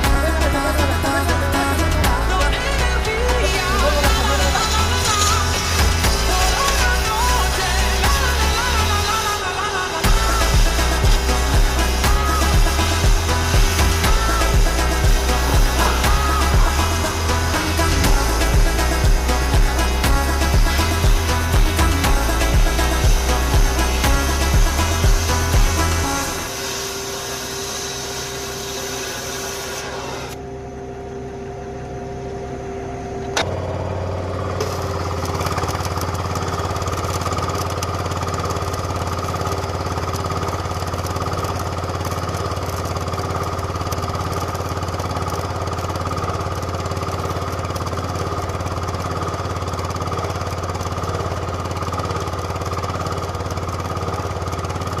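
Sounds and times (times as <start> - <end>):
high steady whine: 0.0 - 55.0
motor humming: 0.0 - 55.0.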